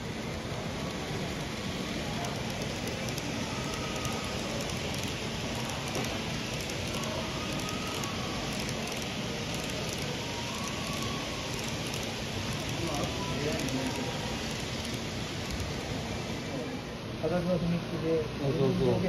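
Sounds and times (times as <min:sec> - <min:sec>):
model train wheels on rails: 0:00.0 - 0:16.8.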